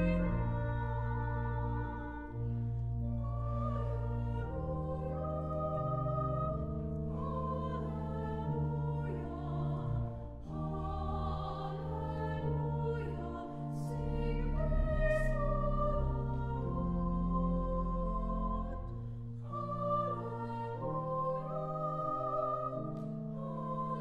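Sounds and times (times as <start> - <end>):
choir singing held chords: 0.0 - 24.0
keyboard accompaniment: 0.0 - 24.0.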